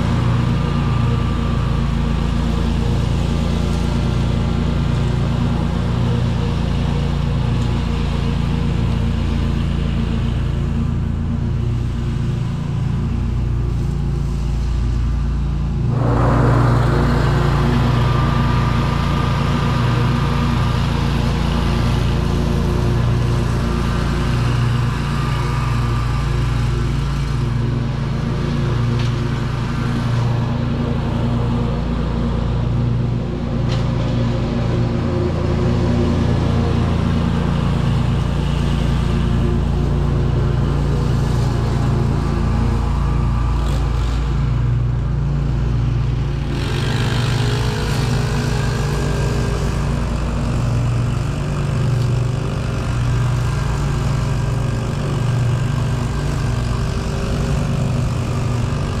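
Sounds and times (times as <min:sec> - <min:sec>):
mower blades mulching leaves: 0:00.0 - 0:59.0
mower engine running: 0:00.0 - 0:59.0.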